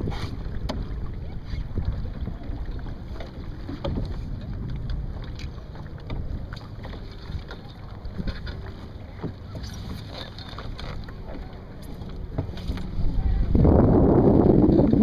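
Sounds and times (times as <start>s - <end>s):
water washing along hull: 0.0s - 15.0s
wind buffeting microphone: 0.0s - 15.0s.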